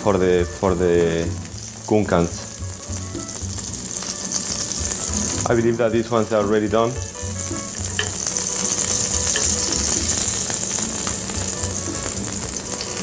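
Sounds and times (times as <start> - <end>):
meat sizzling in frying pan: 0.0 - 13.0.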